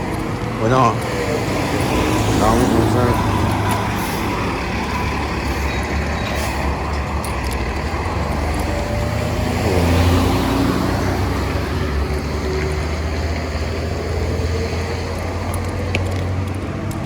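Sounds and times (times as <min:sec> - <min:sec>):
traffic rumble: 0:00.0 - 0:17.0
vehicle passing close: 0:00.0 - 0:17.0.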